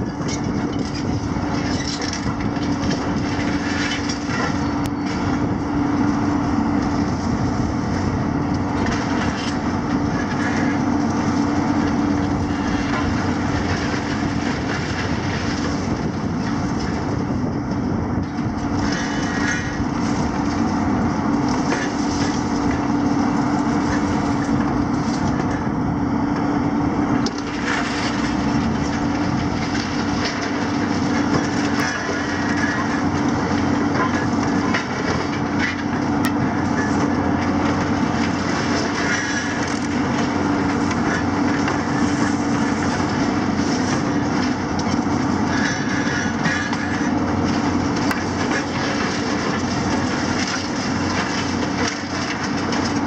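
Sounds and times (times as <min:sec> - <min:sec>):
concrete crunching and cracking: 0:00.0 - 0:25.8, 0:27.2 - 0:53.0
excavator engines humming: 0:00.0 - 0:53.0.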